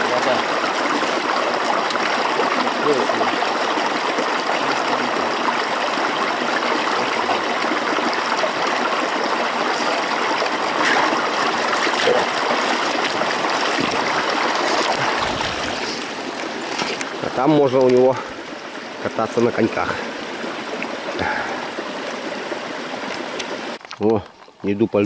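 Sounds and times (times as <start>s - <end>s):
water rushing through dam: 0.0s - 23.8s.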